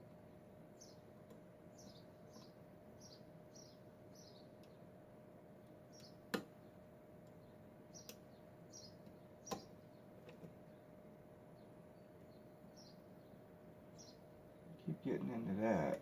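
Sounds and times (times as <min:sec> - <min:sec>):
faint bird chirps: 0:00.1 - 0:05.0, 0:05.8 - 0:16.0.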